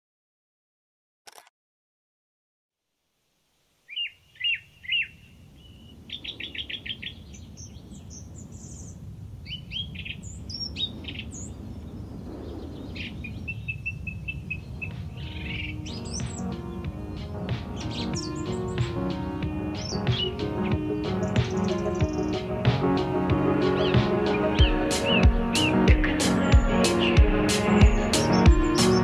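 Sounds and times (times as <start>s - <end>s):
birds singing: 3.9s - 29.0s.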